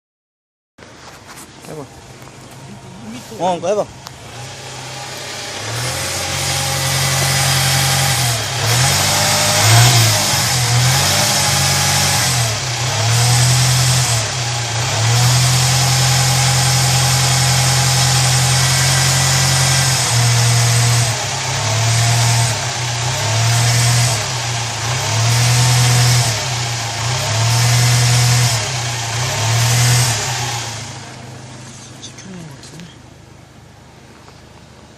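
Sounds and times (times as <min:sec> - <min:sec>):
car engine revving: 0:02.0 - 0:34.4.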